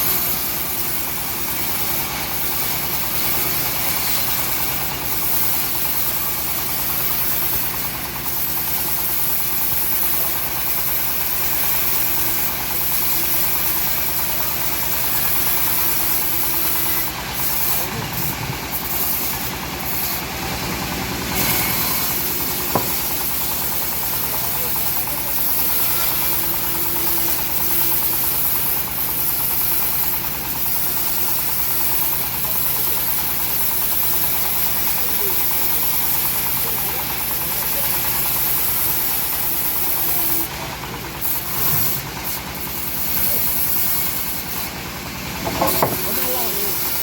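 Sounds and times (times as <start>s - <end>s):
bandsaw high hiss: 0.0s - 47.0s.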